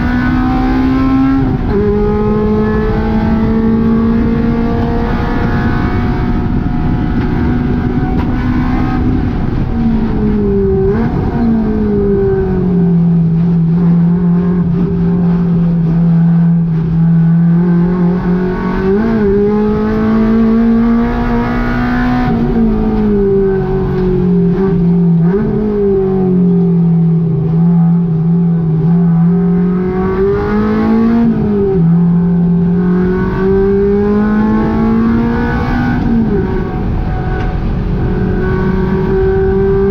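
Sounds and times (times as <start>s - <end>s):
car engine running at high revs: 0.0s - 39.9s.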